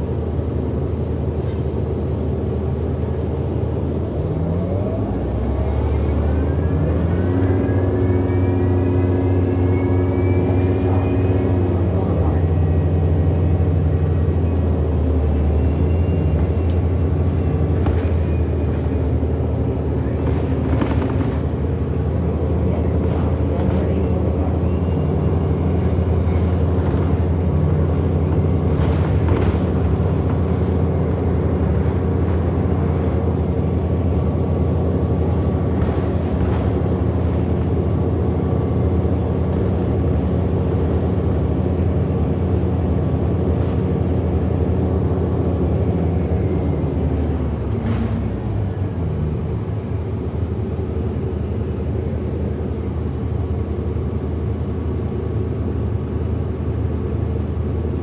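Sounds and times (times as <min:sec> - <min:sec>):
bus drivetrain drone: 0:00.0 - 0:58.0.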